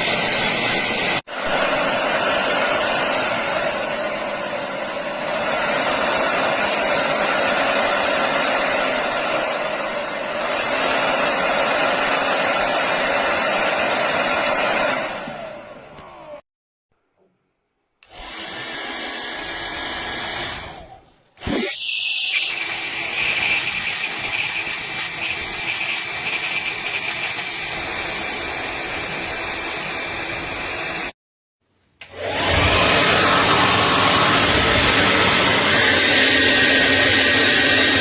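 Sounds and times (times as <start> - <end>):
hair dryer blowing: 0.0 - 16.5, 18.0 - 31.2, 32.0 - 38.0.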